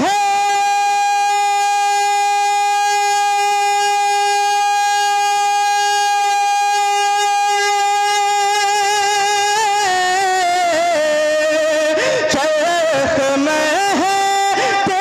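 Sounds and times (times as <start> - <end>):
man singing a long note: 0.0 - 15.0.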